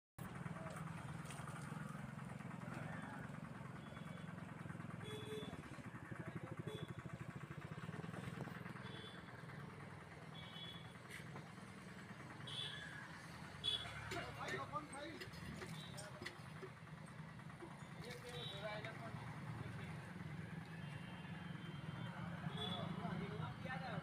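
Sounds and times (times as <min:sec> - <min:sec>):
engine idling: 0:00.2 - 0:24.0.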